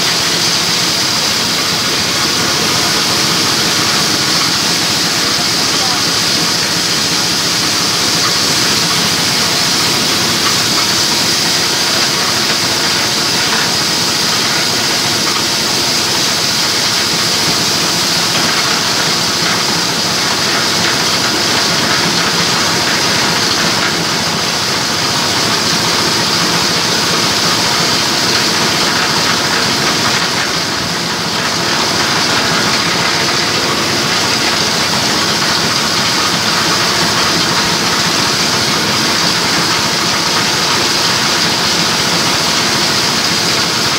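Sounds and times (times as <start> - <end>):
chopper mill grinding: 0.0 - 43.9.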